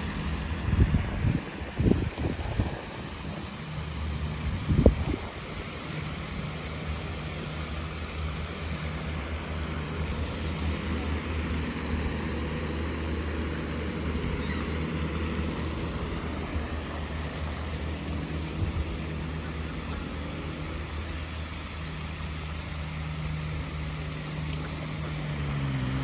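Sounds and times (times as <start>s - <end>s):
low engine drone passing by: 0.0s - 26.0s.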